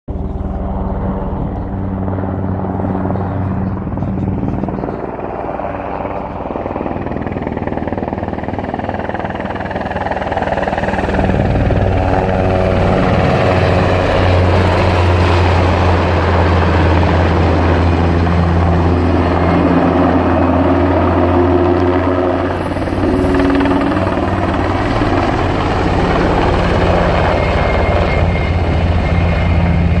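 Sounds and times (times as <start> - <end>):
helicopter rotor and turbine drone: 0.1 - 30.0.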